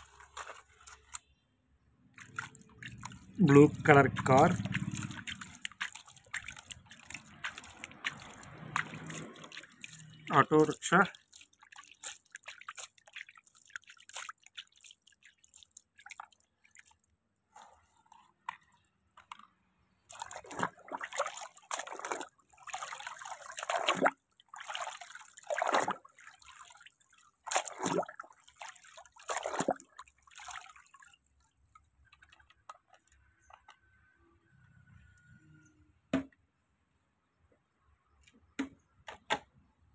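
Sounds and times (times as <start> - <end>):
water dripping and trickling: 0.0 - 1.2, 2.0 - 33.8
water sloshing splashes: 0.0 - 1.4, 2.0 - 33.8.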